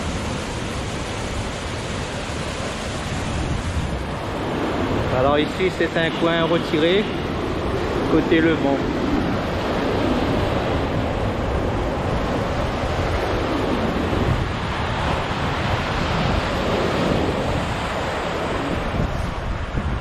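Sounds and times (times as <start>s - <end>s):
surf breaking over rocks: 0.0s - 20.0s
wind buffeting microphone: 0.0s - 20.0s.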